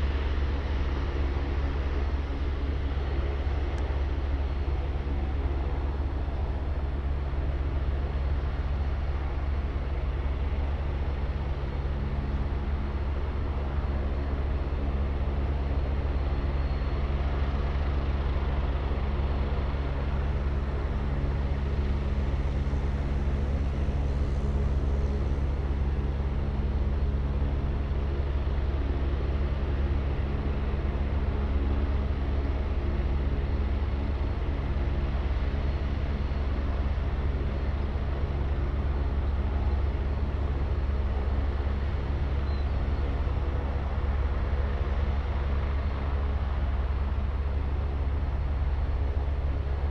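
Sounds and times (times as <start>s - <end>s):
helicopter idling: 0.0s - 49.9s.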